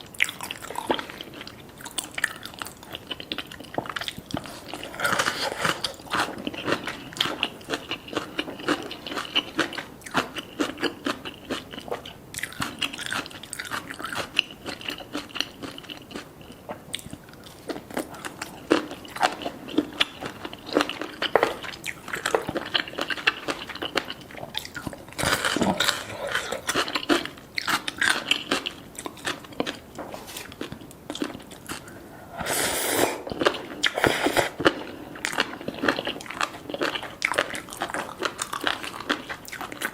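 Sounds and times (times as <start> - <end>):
crisp chewing crunches: 0.2 - 32.0, 33.3 - 39.9.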